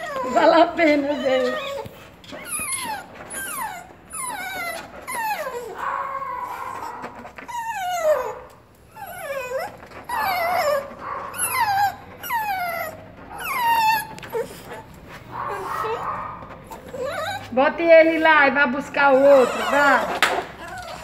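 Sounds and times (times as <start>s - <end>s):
small dog whining: 0.0s - 17.5s, 19.0s - 21.0s.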